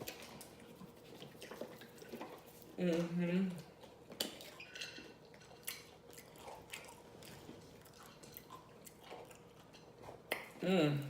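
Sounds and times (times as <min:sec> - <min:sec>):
person chewing: 0:00.0 - 0:02.8, 0:03.6 - 0:11.0.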